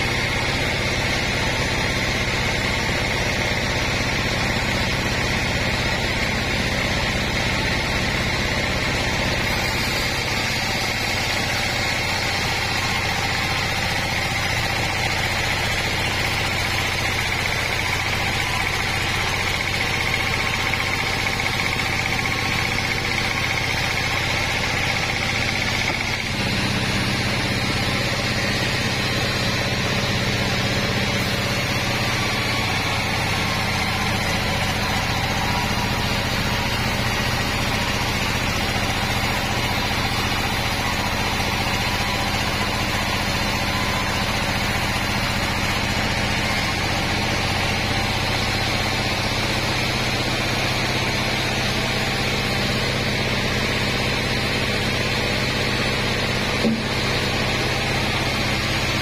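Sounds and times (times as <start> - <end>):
band sawmill drone: 0.0 - 59.0.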